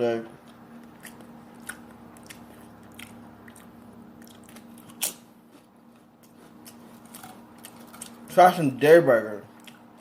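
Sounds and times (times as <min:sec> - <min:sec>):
low steady hum: 0:00.0 - 0:10.0
person chewing: 0:00.4 - 0:08.4, 0:09.5 - 0:10.0.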